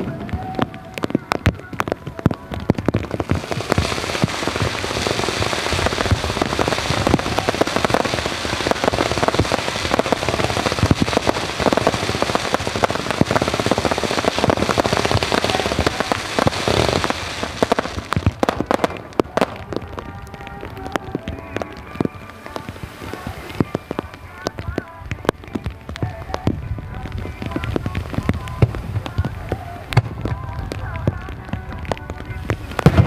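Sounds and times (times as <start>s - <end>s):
fireworks bangs and crackling: 0.0s - 33.0s
heavy rain hiss: 0.0s - 33.0s.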